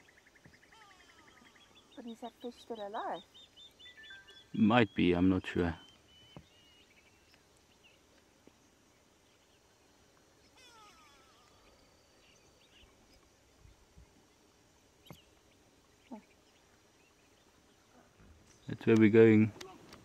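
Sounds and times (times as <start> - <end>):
faint bird chirps: 0.0 - 14.4, 15.0 - 18.8.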